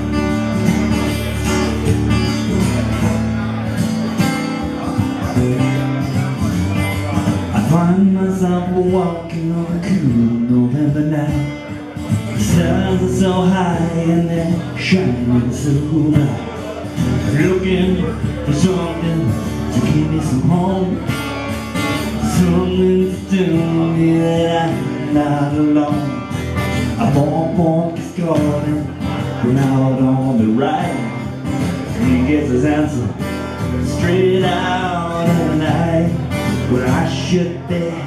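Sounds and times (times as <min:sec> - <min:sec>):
man singing: 0:00.0 - 0:38.0
strummed acoustic guitar: 0:00.0 - 0:38.0.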